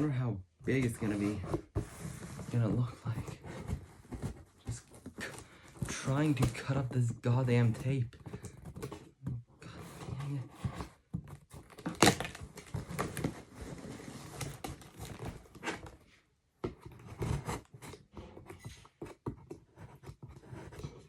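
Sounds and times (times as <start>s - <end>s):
cardboard crinkling and scraping: 0.7s - 21.0s.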